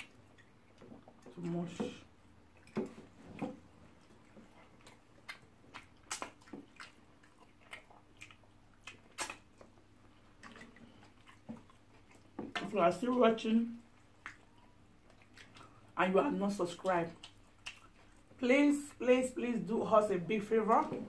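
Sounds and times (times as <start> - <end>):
wet chewing and mouth clicks: 0.0 - 16.0, 16.7 - 18.5.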